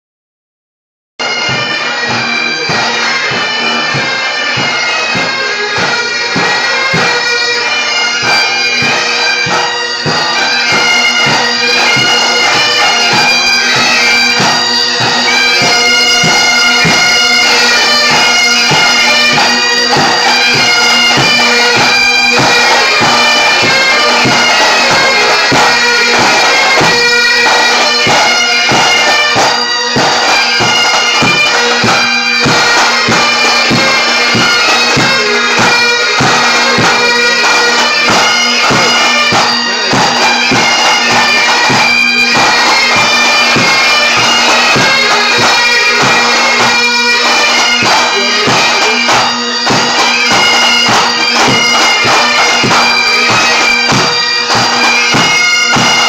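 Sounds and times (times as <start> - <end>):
bagpipes playing: 1.2 - 56.0
drums beating a march: 1.2 - 56.0.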